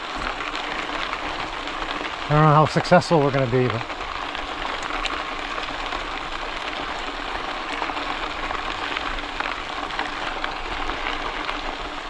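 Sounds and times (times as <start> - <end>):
bicycle tires rolling crackle: 0.0 - 12.0.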